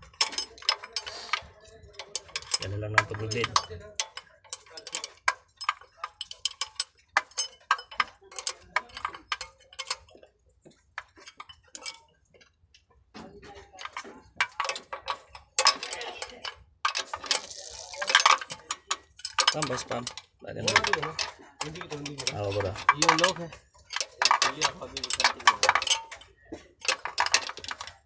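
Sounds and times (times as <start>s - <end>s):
hand tools clicking on metal fittings: 0.0s - 13.0s, 13.7s - 28.0s.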